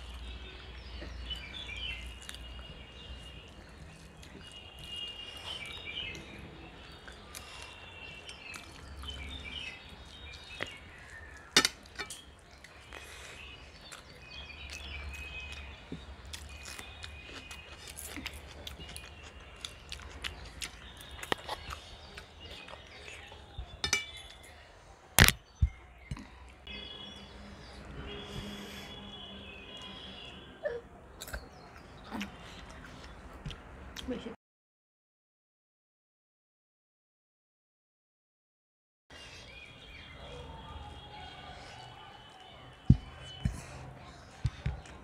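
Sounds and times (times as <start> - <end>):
birds chirping: 0.0 - 34.4, 39.1 - 45.0.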